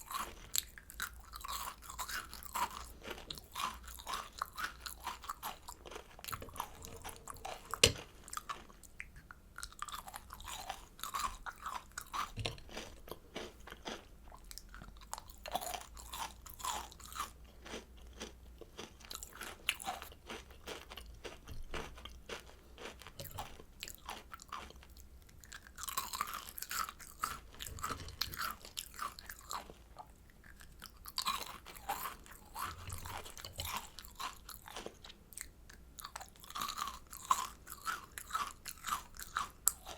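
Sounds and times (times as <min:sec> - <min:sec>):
crunching and chewing candy: 0:00.0 - 0:39.9.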